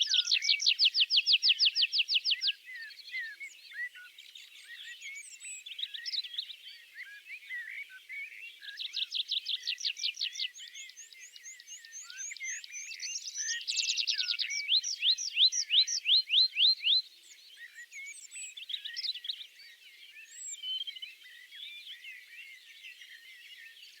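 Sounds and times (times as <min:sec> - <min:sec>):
songbirds singing in chorus: 0:00.0 - 0:24.0.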